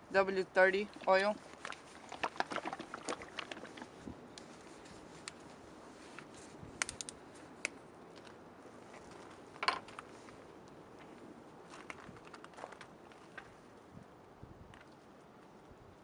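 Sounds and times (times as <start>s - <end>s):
faint steady background: 0.0s - 16.0s.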